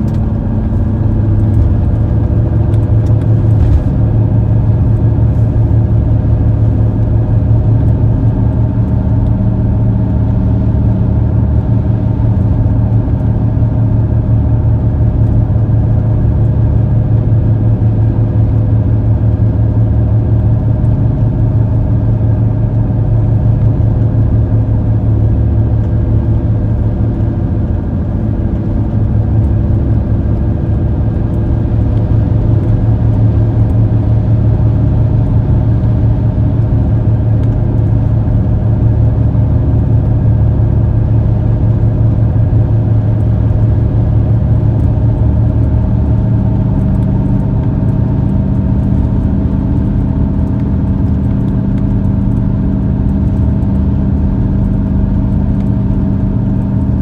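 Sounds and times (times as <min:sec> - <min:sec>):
car cabin engine and road hum: 0:00.0 - 0:57.0.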